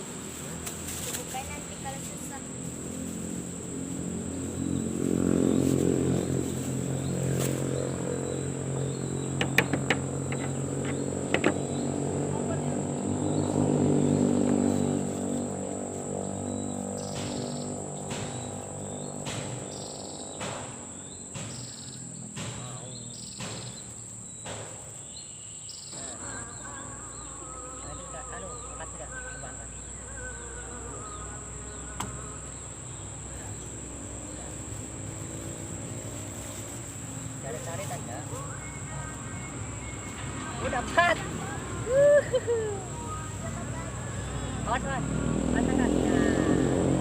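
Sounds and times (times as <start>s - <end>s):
insects whining: 0.0s - 47.0s
low engine hum: 0.0s - 47.0s
pulsing insect call: 0.0s - 47.0s.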